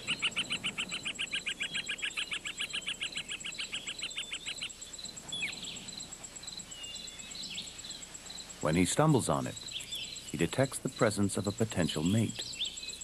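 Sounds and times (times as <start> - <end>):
bird trilling: 0.0 - 13.0
thin steady high whine: 0.0 - 13.0.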